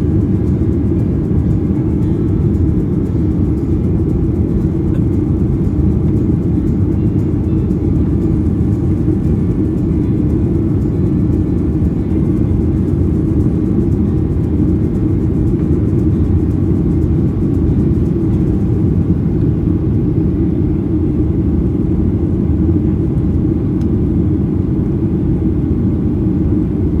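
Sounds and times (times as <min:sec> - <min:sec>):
airliner engines rumbling: 0:00.0 - 0:27.0.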